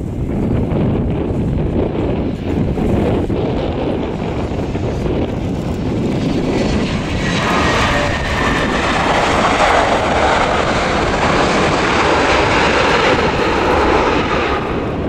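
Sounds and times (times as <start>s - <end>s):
jet engines in reverse thrust: 0.0s - 15.0s.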